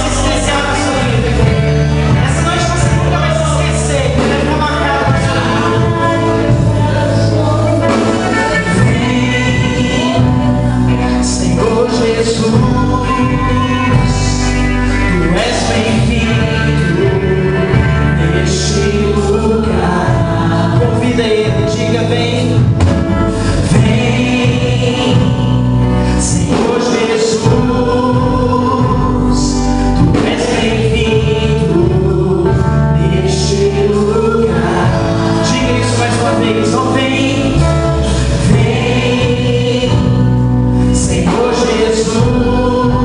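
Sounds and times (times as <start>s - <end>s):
bass and drums: 0.0s - 43.0s
singers holding long lines: 0.0s - 43.0s.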